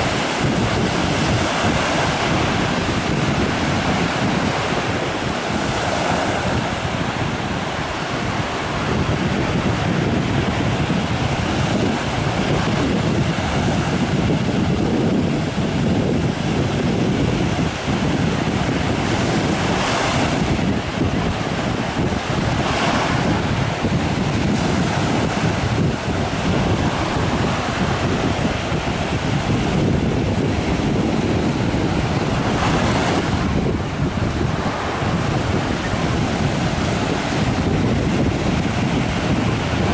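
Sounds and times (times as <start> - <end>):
waves washing up beach: 0.0 - 39.9
wind buffeting microphone: 0.0 - 39.9.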